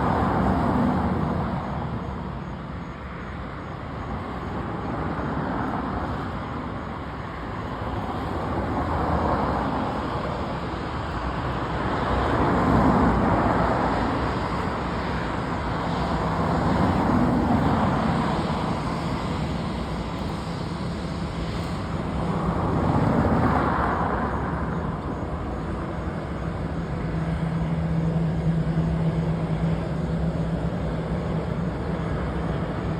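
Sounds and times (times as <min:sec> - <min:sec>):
jet engines rushing: 0:00.0 - 0:32.9.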